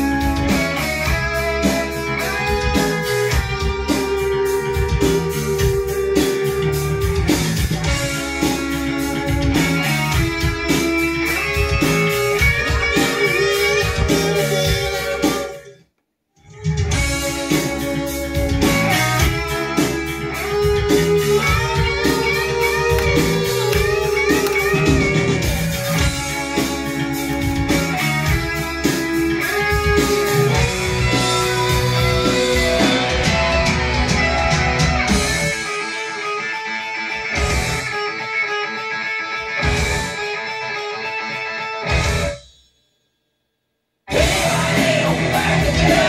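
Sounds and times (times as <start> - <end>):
guitar-led music: 0.0 - 15.8, 16.5 - 42.6, 44.1 - 46.0.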